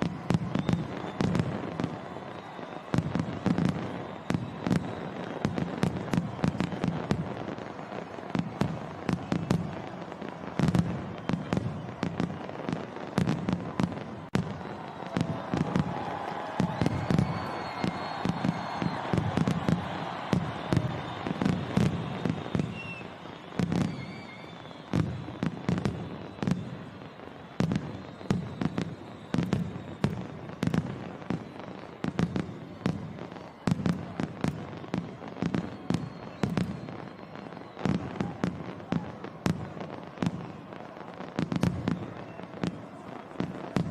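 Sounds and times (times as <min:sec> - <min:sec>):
faint firework whistles: 0:00.0 - 0:43.9
fireworks booming and crackling: 0:00.0 - 0:43.9.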